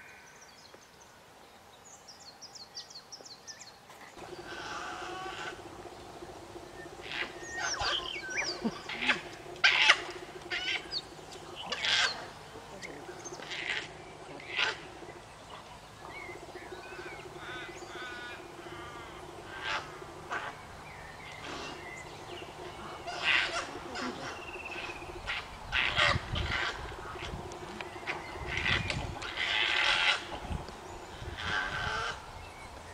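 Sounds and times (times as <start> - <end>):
wavering bird calls: 4.2 - 32.9.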